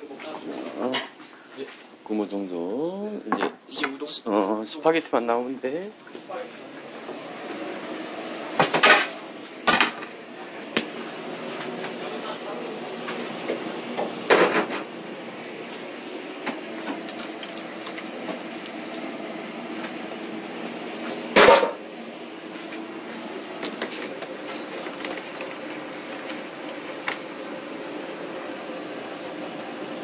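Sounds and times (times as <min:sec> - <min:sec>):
restaurant background hum: 0:00.0 - 0:30.0.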